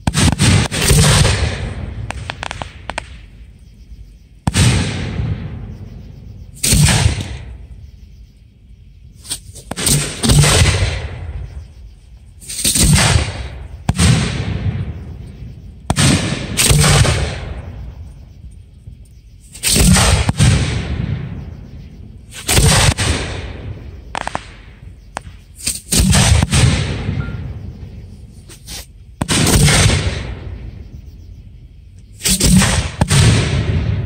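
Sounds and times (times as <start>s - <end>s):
fireworks shells bursting: 0.0s - 3.6s, 4.4s - 7.8s, 9.2s - 18.6s, 19.4s - 30.7s, 32.0s - 34.0s.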